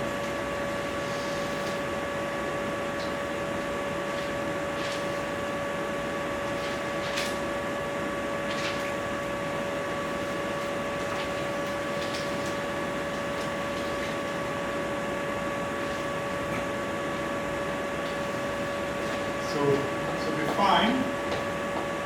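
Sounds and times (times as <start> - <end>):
electrical whine: 0.0 - 22.0.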